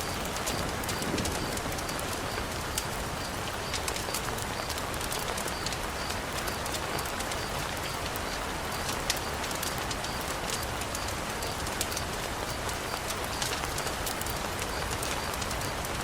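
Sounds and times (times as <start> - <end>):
sharp ticks and pops: 0.0 - 16.0
steady rain falling: 0.0 - 16.0.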